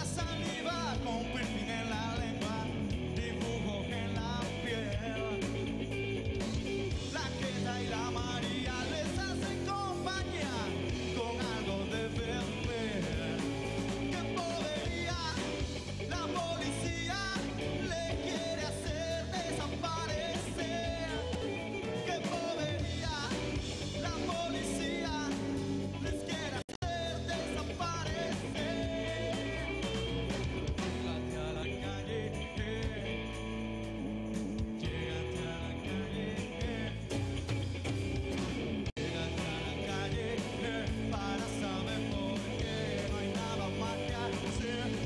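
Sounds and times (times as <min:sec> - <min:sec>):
live rock band music: 0:00.0 - 0:45.0.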